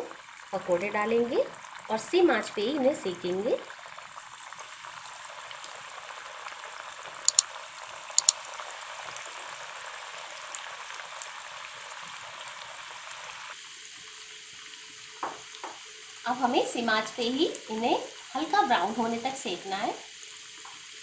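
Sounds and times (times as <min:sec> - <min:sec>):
deep-frying crackling sizzle: 0:00.0 - 0:21.0.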